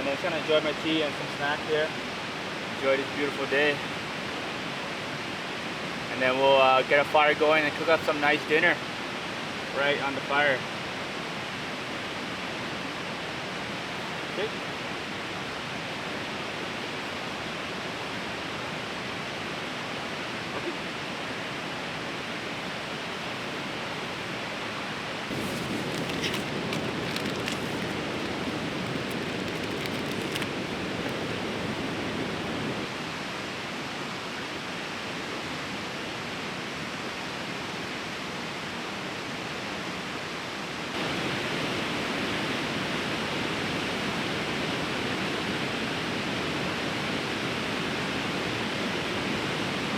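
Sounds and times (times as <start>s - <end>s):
river rushing: 0.0s - 49.9s.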